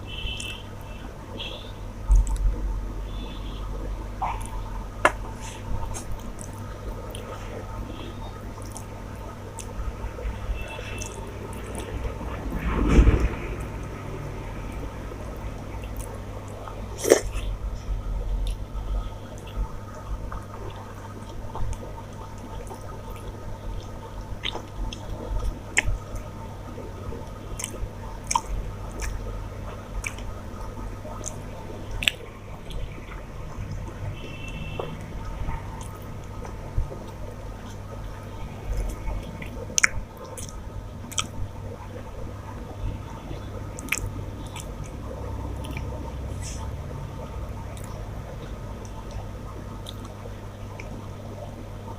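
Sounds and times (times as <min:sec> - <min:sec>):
chewing and wet squishing: 0:00.1 - 0:12.5, 0:14.6 - 0:51.6.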